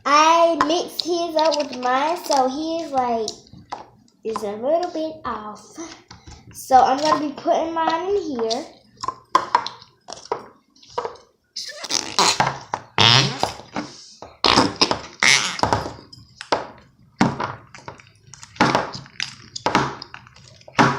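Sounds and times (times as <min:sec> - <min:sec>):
wet slime squelches: 0:00.0 - 0:20.9.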